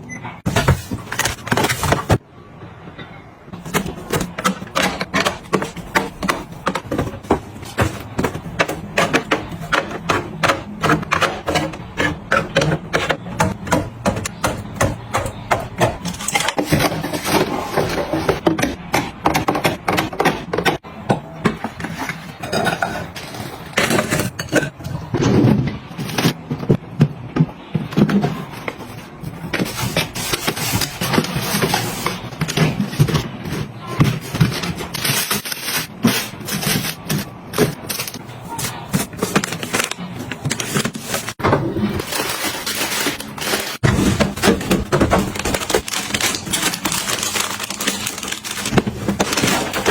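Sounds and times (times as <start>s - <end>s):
items scraping: 0.4s - 2.3s, 3.0s - 49.9s
household items clicking and knocking: 3.5s - 49.9s.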